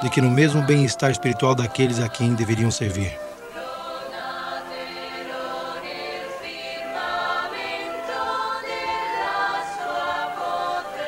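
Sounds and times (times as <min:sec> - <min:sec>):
choir singing sustained notes: 0:00.0 - 0:11.0.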